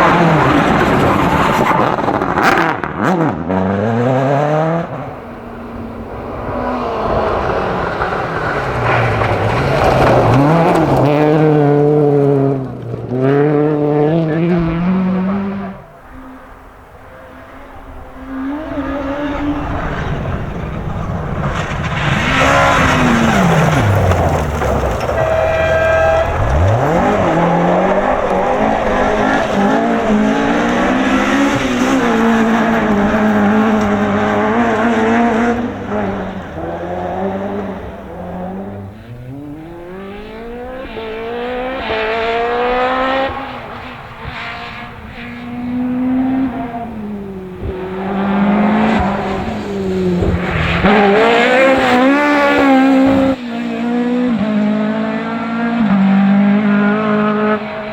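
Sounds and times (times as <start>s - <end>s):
car accelerating through gears: 0.0s - 57.9s
car passing by: 0.0s - 57.9s
rally car engines revving: 0.0s - 57.9s.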